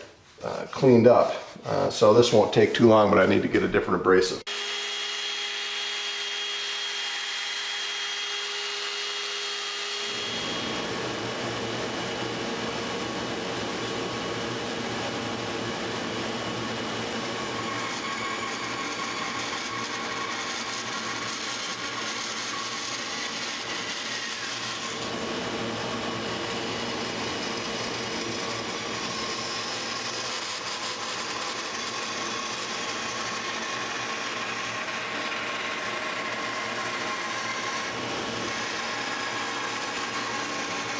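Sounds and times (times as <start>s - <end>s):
bandsaw cutting wood: 4.4s - 40.9s
drill sanding wood: 4.4s - 40.9s.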